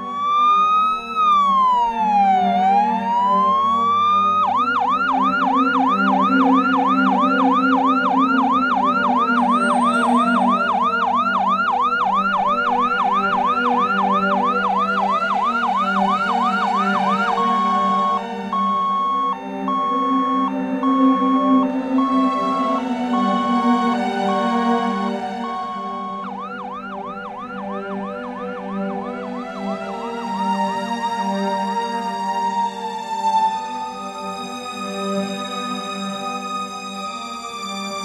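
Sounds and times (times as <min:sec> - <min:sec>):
electronic siren wailing and yelping: 0:00.0 - 0:30.5.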